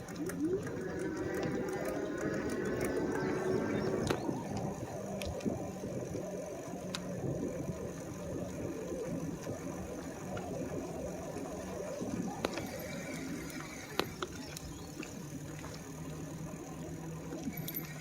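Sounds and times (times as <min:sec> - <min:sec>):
bike clicks and rattles: 0:00.0 - 0:18.0
electric motor hum: 0:00.0 - 0:18.0
tyre and road rumble: 0:00.0 - 0:18.0.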